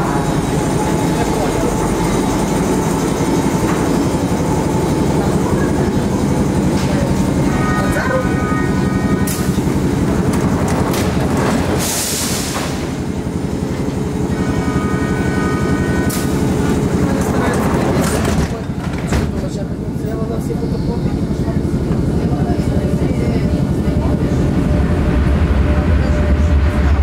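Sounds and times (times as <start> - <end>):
fast rail clatter: 0.0 - 27.0
train rumbling through tunnel: 0.0 - 27.0.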